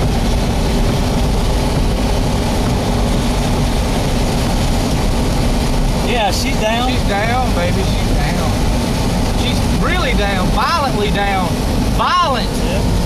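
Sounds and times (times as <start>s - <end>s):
low vehicle drone: 0.0s - 13.0s
wind roaring on microphone: 0.0s - 13.0s.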